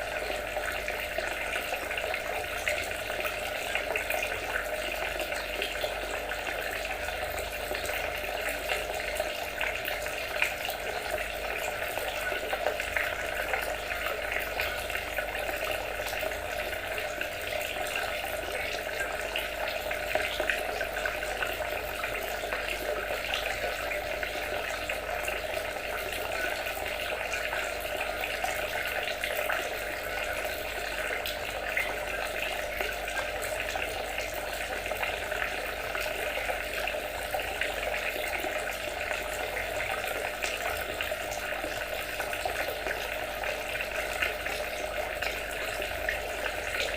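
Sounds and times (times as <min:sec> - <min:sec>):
water trickling and splashing: 0:00.0 - 0:46.9.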